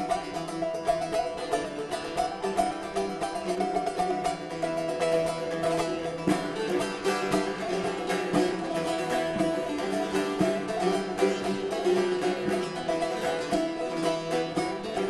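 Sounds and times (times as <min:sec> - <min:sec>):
long-necked lutes strummed rapidly: 0:00.0 - 0:15.0.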